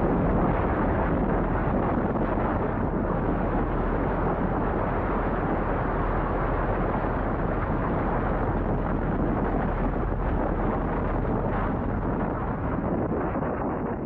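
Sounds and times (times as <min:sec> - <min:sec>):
strong storm wind blowing: 0:00.0 - 0:14.0.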